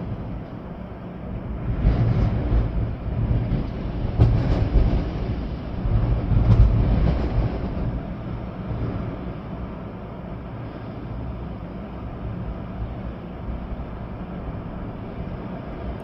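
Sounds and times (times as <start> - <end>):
rain: 0.0 - 16.0
storm wind gusting through trees: 0.0 - 16.0
wind rumble on microphone: 0.0 - 16.0.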